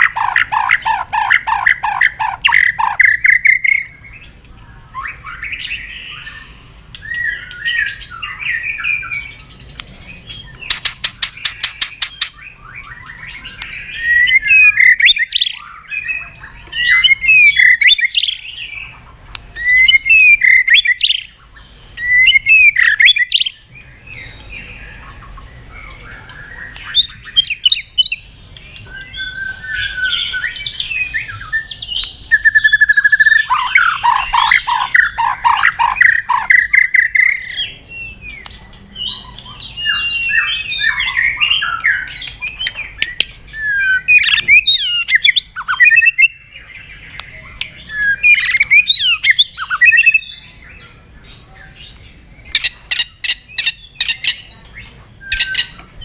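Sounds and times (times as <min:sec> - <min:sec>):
songbird singing varied song: 0:00.0 - 0:56.0.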